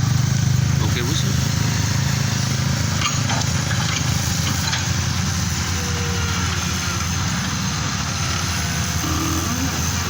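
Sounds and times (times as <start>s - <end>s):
motor engine droning: 0.0s - 10.0s.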